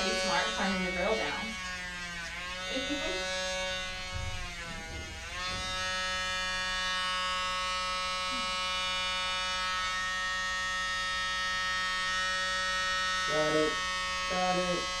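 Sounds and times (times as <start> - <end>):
electric rotary tool running: 0.0 - 15.0.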